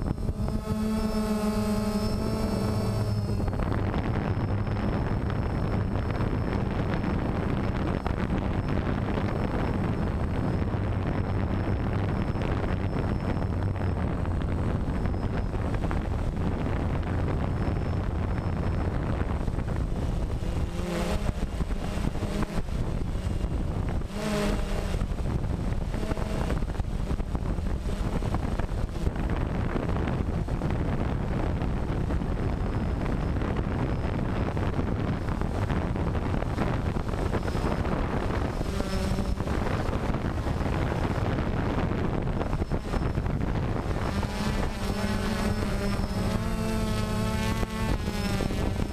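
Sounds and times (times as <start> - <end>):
drone propellers whirring: 0.0 - 48.9
wind buffeting microphone: 0.0 - 48.9.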